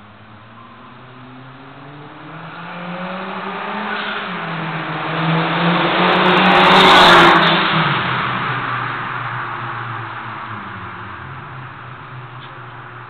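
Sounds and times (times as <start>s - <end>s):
car driving past: 0.2s - 13.0s.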